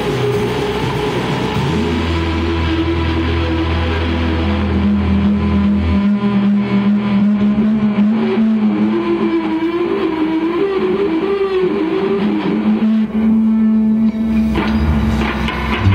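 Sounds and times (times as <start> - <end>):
distorted electric guitars droning: 0.0 - 15.9
higher guitar note wavering: 0.0 - 15.9.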